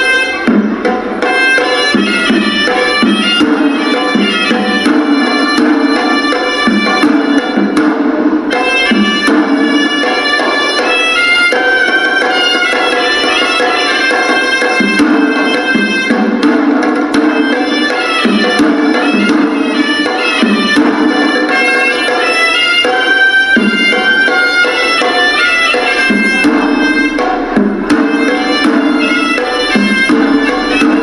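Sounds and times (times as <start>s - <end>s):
hand drum strokes: 0.0s - 31.0s
reedy shawm melody: 0.0s - 31.0s.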